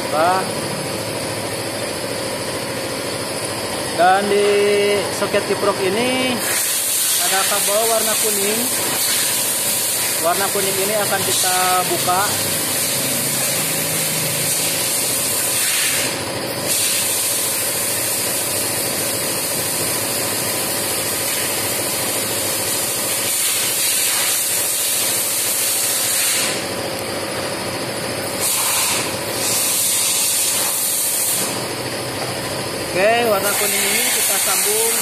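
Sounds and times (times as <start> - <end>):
loud steady hiss: 4.0 - 27.0, 28.2 - 31.9, 32.8 - 35.0.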